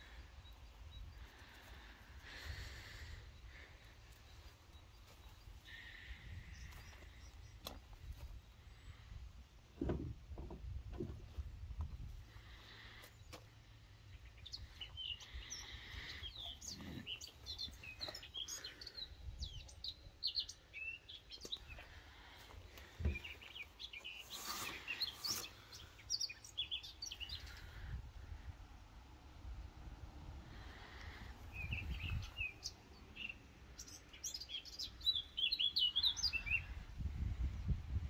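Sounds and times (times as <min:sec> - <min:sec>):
small birds chirping: 0:00.0 - 0:10.6, 0:11.2 - 0:29.0, 0:30.5 - 0:38.0.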